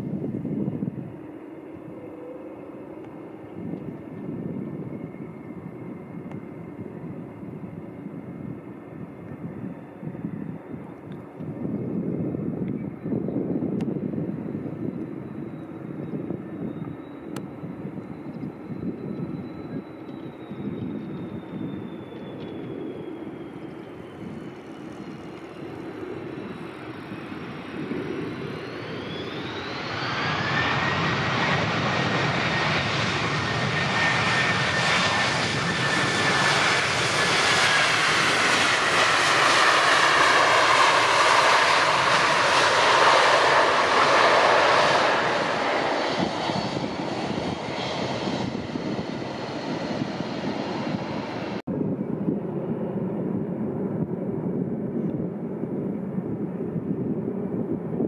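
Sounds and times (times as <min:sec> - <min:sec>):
airliner passing overhead: 0:00.0 - 0:58.0.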